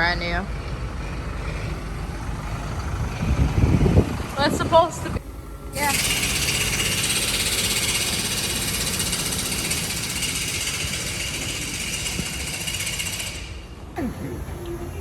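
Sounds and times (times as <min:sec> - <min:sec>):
truck diesel engine clattering: 0:00.0 - 0:15.0.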